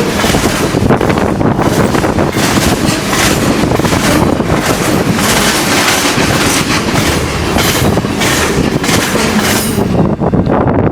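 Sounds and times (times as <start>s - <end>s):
train wheels clattering on rails: 0.0s - 10.5s
loud rushing noise: 0.0s - 10.9s.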